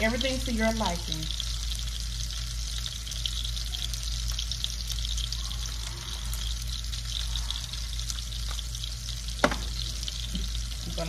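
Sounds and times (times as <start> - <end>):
low steady hum: 0.0 - 11.0
sauce sizzling in a pan: 0.0 - 11.0.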